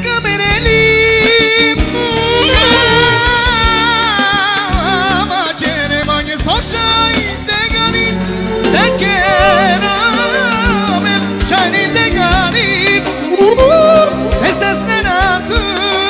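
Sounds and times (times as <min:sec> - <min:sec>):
bass line: 0:00.0 - 0:16.0
ornamented melody line: 0:00.0 - 0:16.0
steady drum beat: 0:00.0 - 0:16.0.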